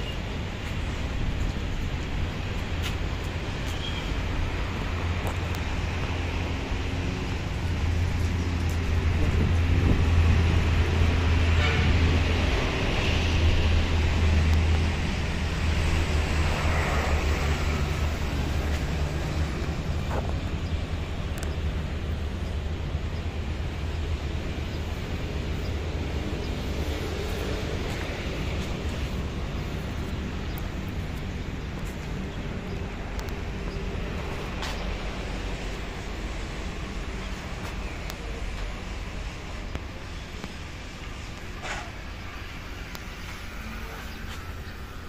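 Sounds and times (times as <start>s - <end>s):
wind rumbling on microphone: 0.0s - 38.2s.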